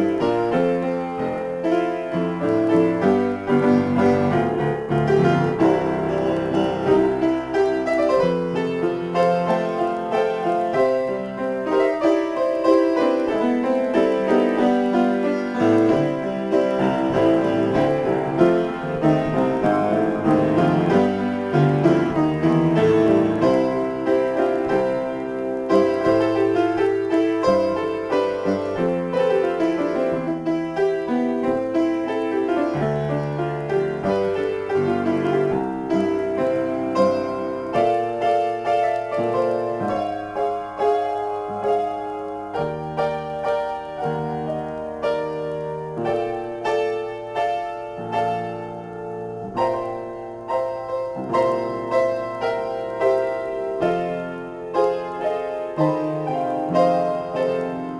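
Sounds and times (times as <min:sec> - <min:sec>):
upright piano improvisation: 0:00.0 - 0:57.9.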